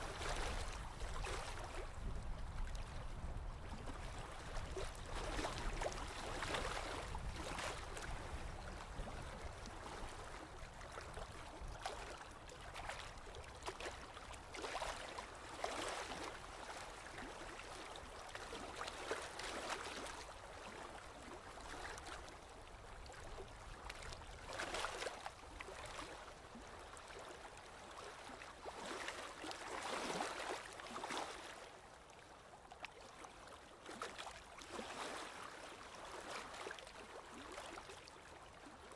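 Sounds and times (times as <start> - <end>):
stream water lapping: 0.0 - 38.9.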